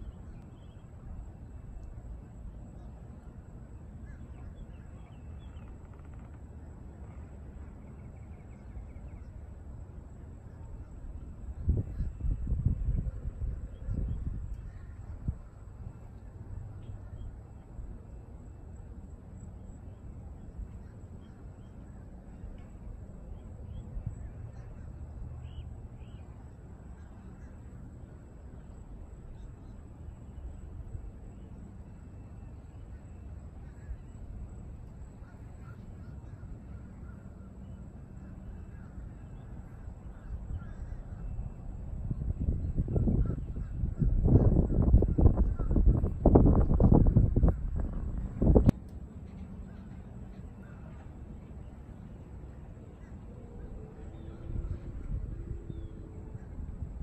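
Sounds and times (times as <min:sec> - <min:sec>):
low background rumble: 0:00.0 - 0:57.0.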